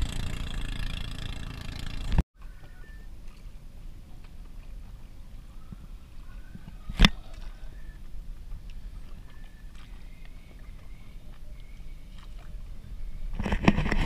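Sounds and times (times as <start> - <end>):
water and wind: 0.0 - 14.0.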